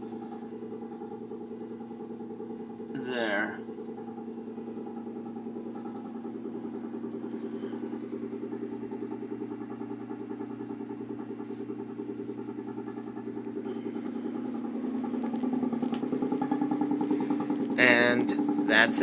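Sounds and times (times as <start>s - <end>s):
buzzing hum from sink drain: 0.0s - 19.0s.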